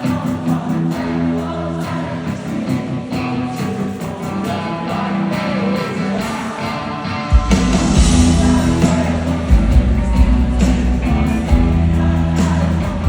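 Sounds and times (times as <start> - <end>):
live rock band: 0.0 - 13.0.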